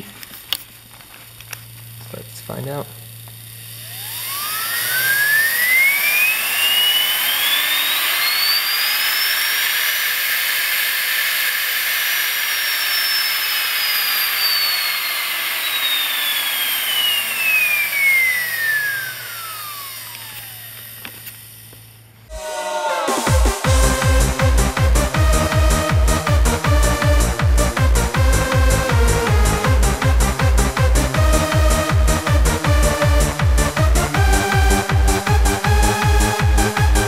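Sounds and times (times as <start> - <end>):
electric motor whine: 0.0 - 37.0.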